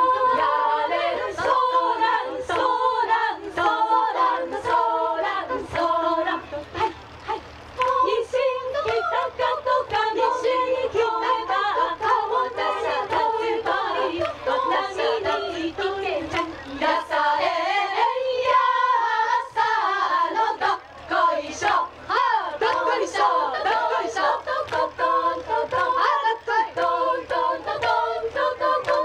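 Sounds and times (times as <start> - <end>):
women's choir singing a cappella: 0.0 - 29.0.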